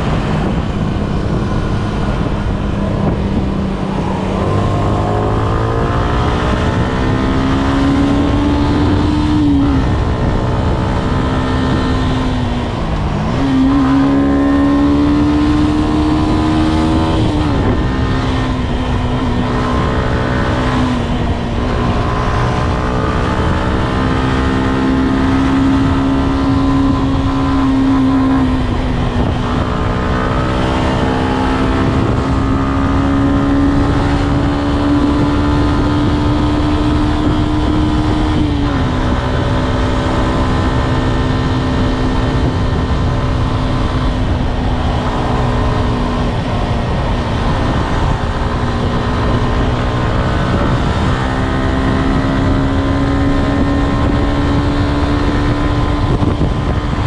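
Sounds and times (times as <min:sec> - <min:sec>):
motorcycle engine at speed: 0:00.0 - 0:57.0
wind rushing: 0:00.0 - 0:57.0.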